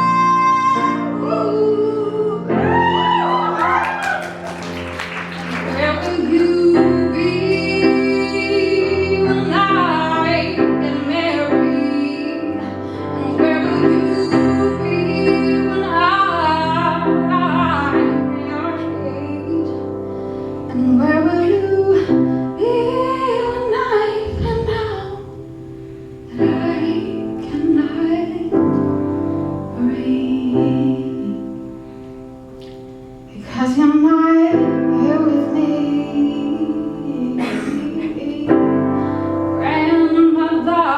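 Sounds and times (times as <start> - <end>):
woman singing a ballad: 0.0 - 4.0, 5.6 - 32.1, 33.2 - 40.9
piano: 0.0 - 40.9.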